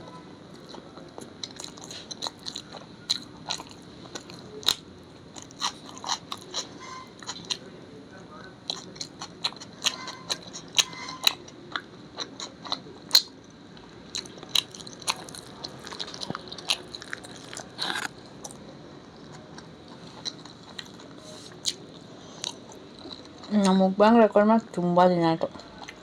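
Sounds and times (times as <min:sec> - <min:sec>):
person chewing crunchy food: 0:00.5 - 0:07.6, 0:08.7 - 0:23.5.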